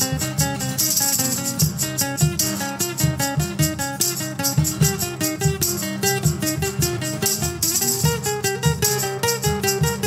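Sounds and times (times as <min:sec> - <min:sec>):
acoustic guitars strumming: 0:00.0 - 0:10.0
picked guitar melody: 0:00.0 - 0:10.0.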